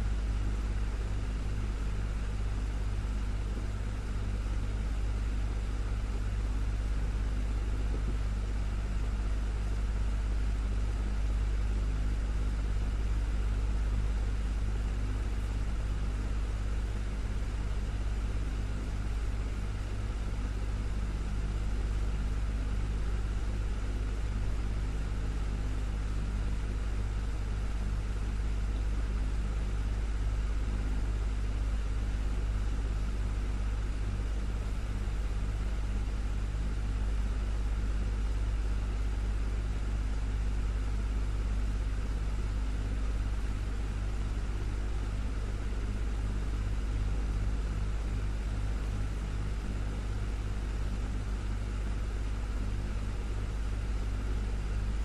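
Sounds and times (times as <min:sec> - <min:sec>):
desktop fan humming: 0:00.0 - 0:55.0.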